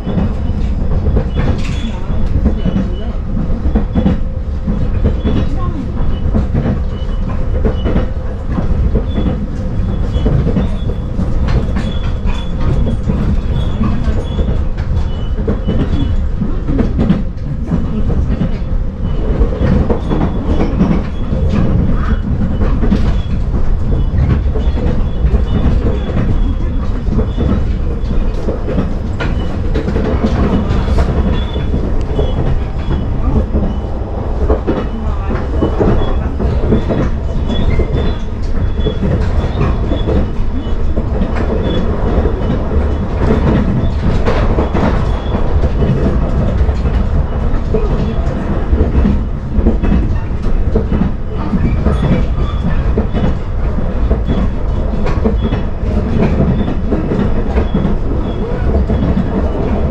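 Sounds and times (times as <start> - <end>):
train rumble inside carriage: 0.0 - 59.9
wheels clacking over rails: 0.0 - 59.9.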